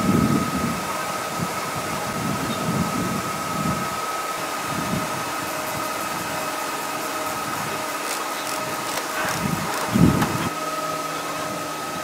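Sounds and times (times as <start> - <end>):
sawmill machinery humming: 0.0 - 12.0.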